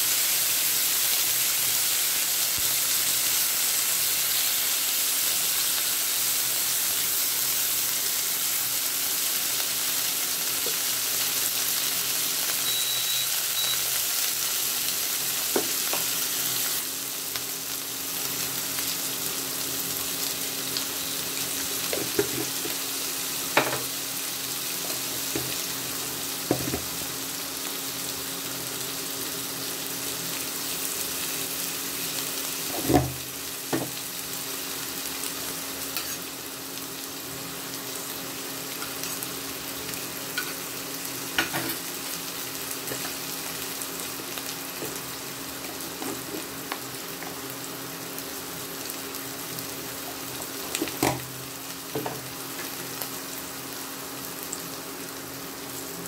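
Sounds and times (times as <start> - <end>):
potatoes sizzling in a frying pan: 0.0 - 56.0.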